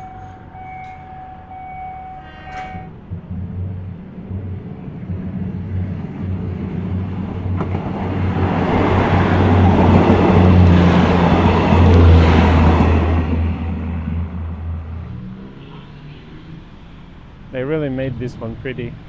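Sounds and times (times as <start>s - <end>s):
train wheel and rail noise: 0.0s - 15.3s
locomotive engine drone: 0.0s - 15.7s.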